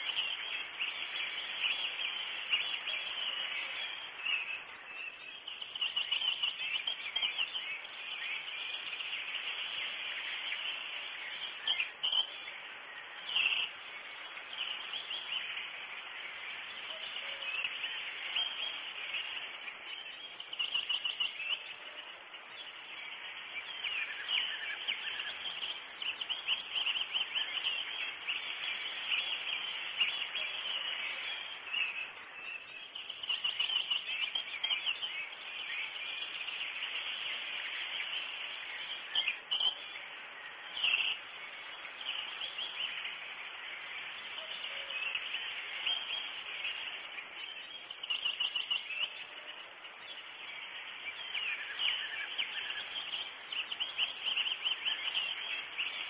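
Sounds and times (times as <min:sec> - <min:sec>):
birds chirping: 0:00.0 - 0:54.2
high-pitched hiss: 0:00.0 - 0:56.0.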